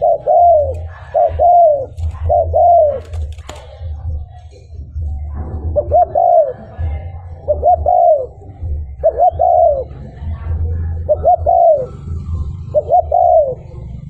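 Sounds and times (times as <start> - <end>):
dove cooing: 0.0 - 4.3, 5.1 - 14.0.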